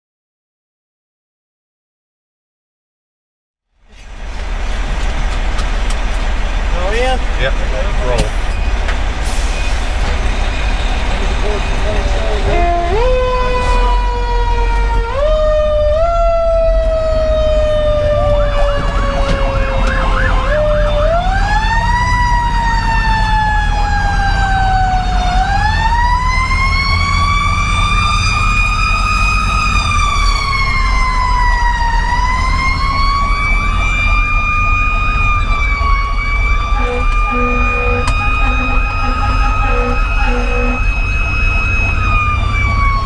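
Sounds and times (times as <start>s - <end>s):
diesel truck engine rumble: 3.8s - 43.0s.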